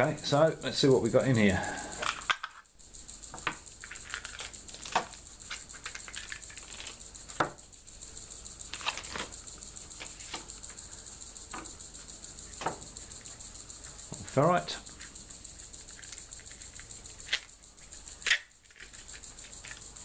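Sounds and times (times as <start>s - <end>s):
small parts rattling: 0.2s - 7.7s, 8.4s - 20.0s.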